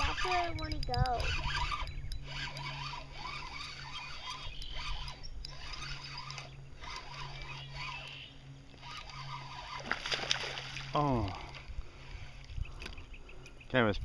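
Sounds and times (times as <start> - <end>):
fishing reel gears whirring: 0.0 - 14.0.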